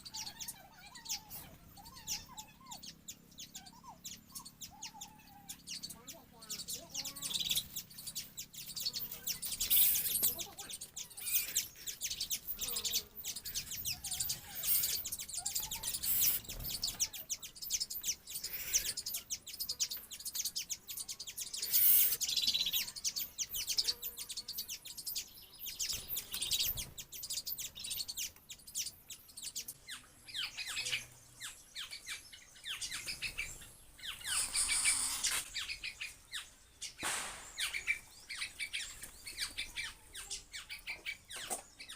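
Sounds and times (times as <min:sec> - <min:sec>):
birds chirping and twittering: 0:00.0 - 0:41.9.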